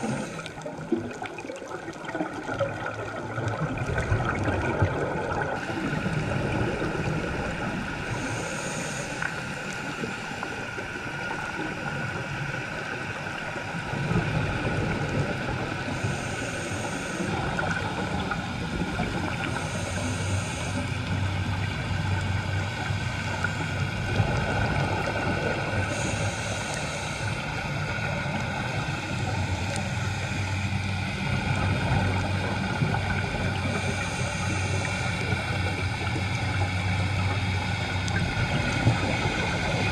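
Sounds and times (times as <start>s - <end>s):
diver regulator breathing: 0.0s - 1.2s, 5.3s - 39.9s
exhaled bubbles rumbling: 0.0s - 39.9s
steady droning hum: 0.0s - 39.9s.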